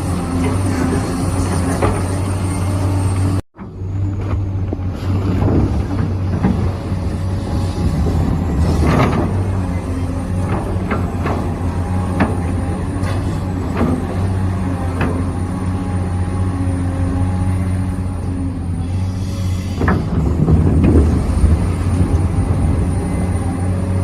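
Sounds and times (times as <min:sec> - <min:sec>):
low motor hum: 0:00.0 - 0:24.0.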